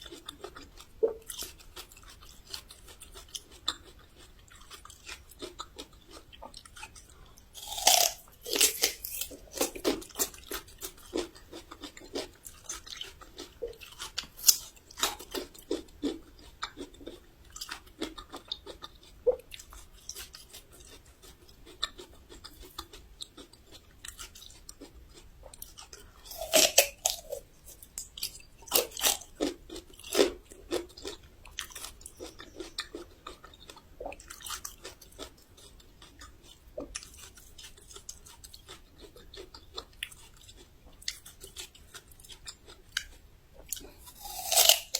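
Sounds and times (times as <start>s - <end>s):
ginger root crunching when chewed: 0.0s - 44.9s.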